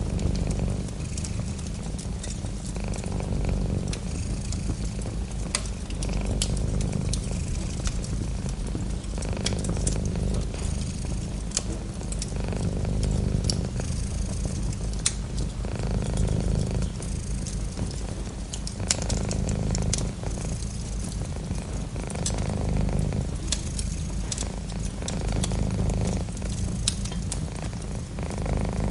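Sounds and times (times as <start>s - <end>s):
cat purring: 0.0s - 28.9s
wood fire crackling: 0.0s - 28.9s.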